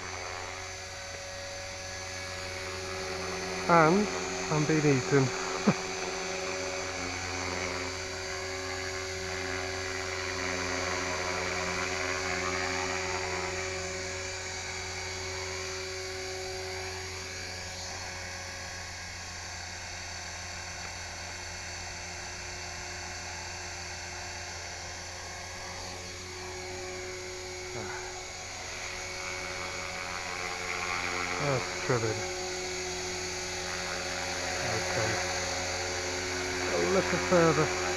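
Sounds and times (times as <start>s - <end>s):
rotor buzzing: 0.0s - 19.5s, 23.6s - 37.9s
electric motor high whine: 0.0s - 37.9s.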